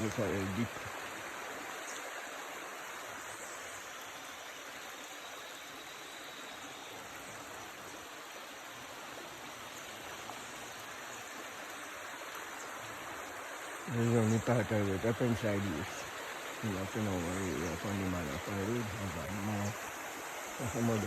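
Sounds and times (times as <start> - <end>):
floodwater flowing: 0.0 - 21.0.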